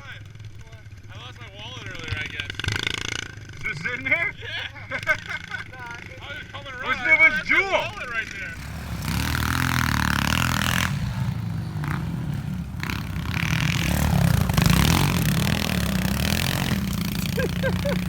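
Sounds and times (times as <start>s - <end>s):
pit bike engines revving: 0.0s - 18.0s.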